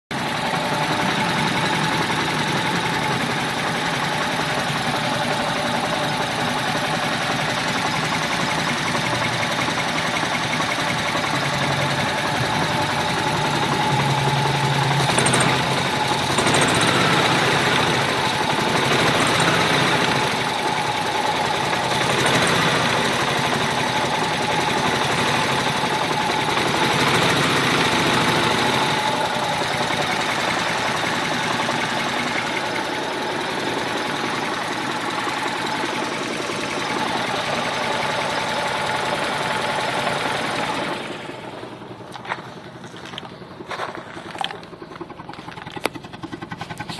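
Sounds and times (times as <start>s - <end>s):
van engine idling roughly: 0.1s - 46.9s.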